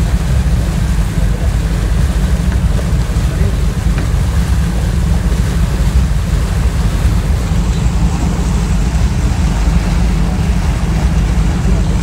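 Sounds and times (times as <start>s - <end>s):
ship diesel engine rumble: 0.0s - 12.0s
wind buffeting microphone: 0.0s - 12.0s.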